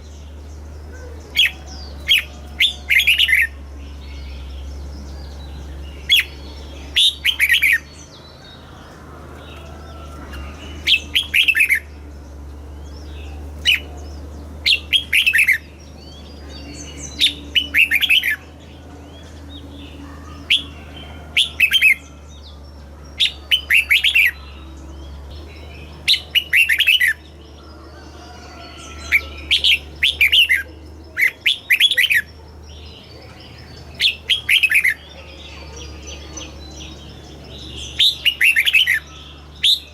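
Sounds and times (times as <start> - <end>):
bird singing warbled phrases: 0.0 - 39.9
steady low hum: 0.0 - 39.9.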